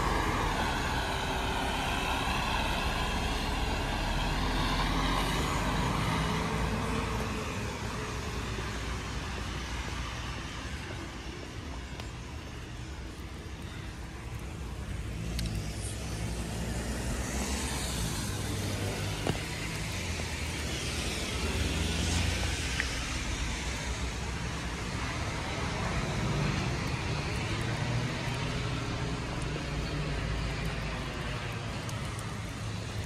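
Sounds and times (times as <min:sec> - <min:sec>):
car tyres hissing on wet road: 0:00.0 - 0:33.0
low traffic rumble: 0:00.0 - 0:33.0.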